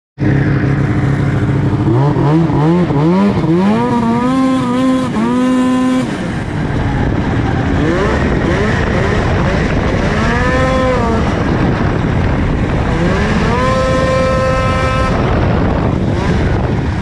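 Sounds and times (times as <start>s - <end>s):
snowmobile engine revving: 0.2s - 17.0s.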